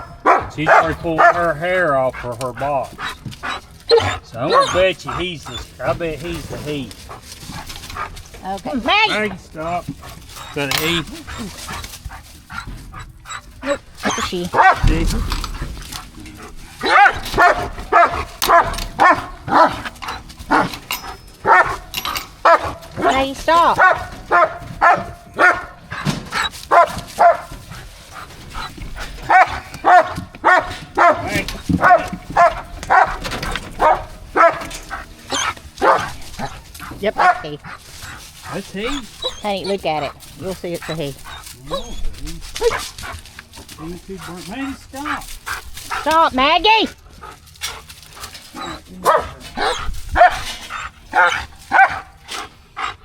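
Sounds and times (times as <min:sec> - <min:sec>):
dog barking: 0:00.0 - 0:52.5.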